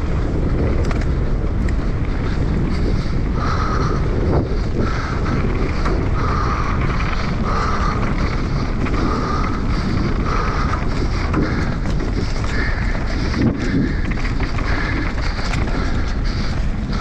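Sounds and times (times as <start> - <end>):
tyres rolling over dry dirt: 0.0 - 17.0
wind buffeting microphone: 0.0 - 17.0.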